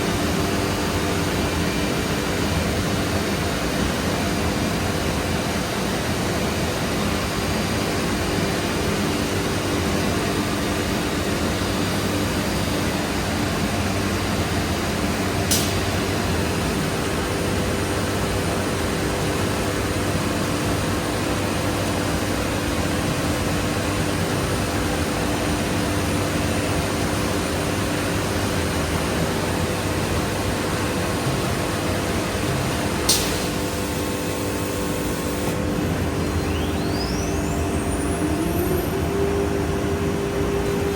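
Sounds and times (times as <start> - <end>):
cnc router running: 0.0 - 40.9.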